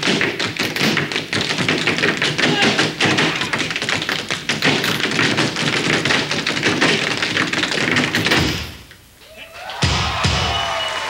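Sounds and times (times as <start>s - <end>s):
tap dancing on stage platforms: 0.0s - 9.0s, 9.7s - 10.9s.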